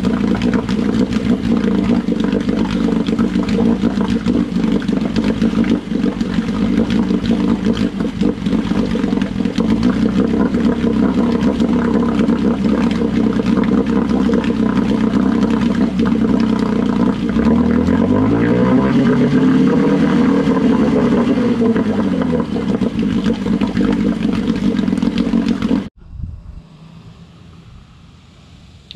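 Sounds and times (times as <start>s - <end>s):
outboard motor running: 0.0s - 26.0s
propeller churning water: 0.0s - 26.0s.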